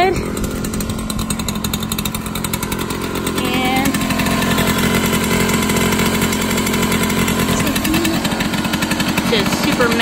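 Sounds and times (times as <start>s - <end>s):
moped two-stroke engine running: 0.0s - 10.0s.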